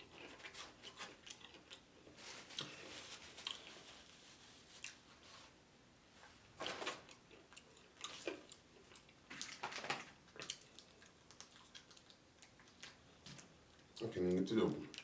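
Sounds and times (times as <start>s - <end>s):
crunchy chewing of fried food: 0.0s - 5.6s, 6.9s - 14.1s.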